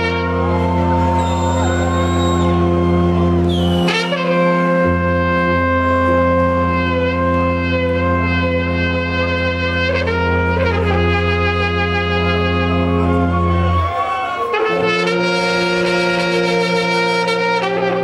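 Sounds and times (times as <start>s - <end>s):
held brass chords: 0.0s - 18.0s.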